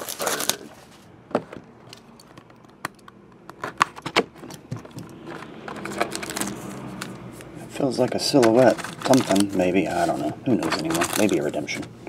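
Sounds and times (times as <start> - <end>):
box handling noise: 0.0 - 12.0.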